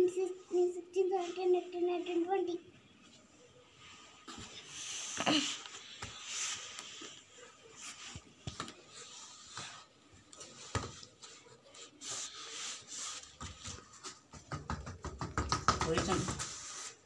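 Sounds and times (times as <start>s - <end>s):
soft rustling: 0.3s - 14.3s.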